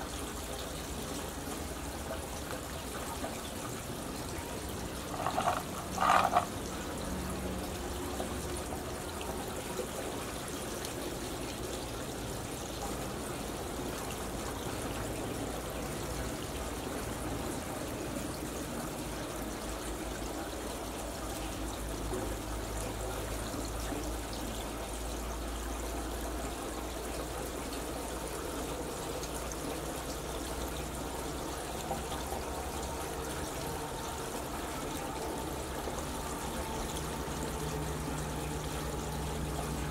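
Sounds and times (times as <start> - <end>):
steady rush like running water: 0.0 - 39.9.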